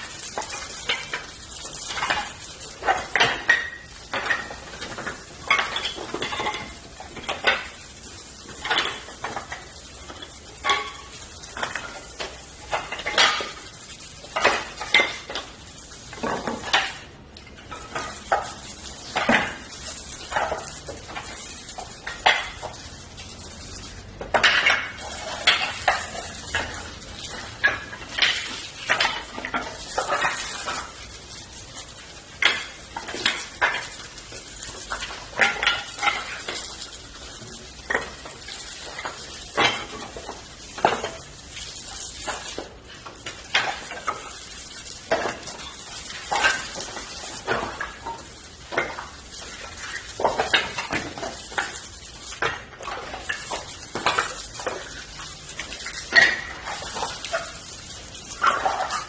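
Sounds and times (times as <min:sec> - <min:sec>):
firewood crackling and popping: 0:00.0 - 0:59.0
steady hiss: 0:00.0 - 0:59.0.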